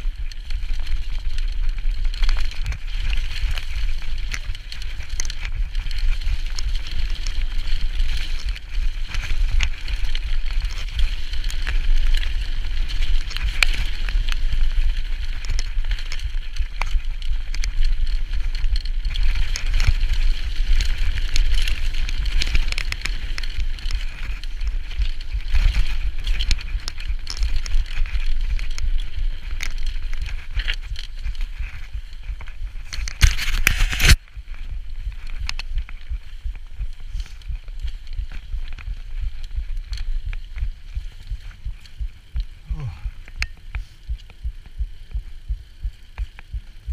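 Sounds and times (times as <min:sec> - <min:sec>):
bike rattling over stones: 0:00.0 - 0:46.9.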